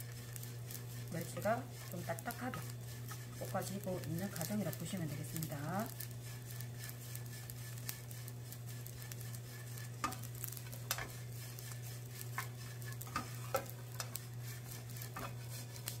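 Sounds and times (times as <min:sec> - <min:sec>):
anchovies sizzling in oil: 0:00.0 - 0:16.0
steady low hum: 0:00.0 - 0:16.0
wooden spoon scraping a pan: 0:00.0 - 0:16.0.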